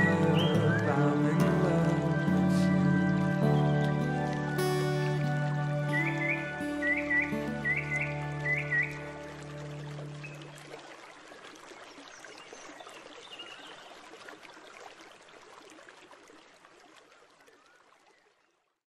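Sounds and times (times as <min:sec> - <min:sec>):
stream trickling: 0:00.0 - 0:18.8.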